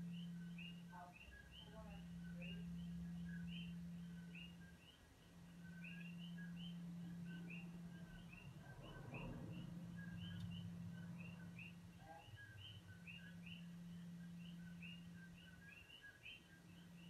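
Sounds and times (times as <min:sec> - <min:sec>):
singing bowl low hum: 0:00.0 - 0:17.0
two-note chirping call: 0:00.0 - 0:17.0.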